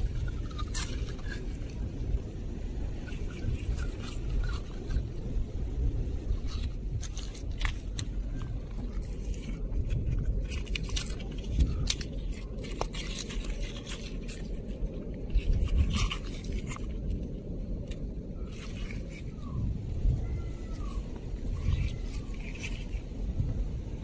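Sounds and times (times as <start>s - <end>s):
coral rubble crunching: 0.0s - 2.2s, 2.9s - 5.3s, 6.2s - 19.6s, 20.6s - 23.2s
low rumble: 0.0s - 24.0s.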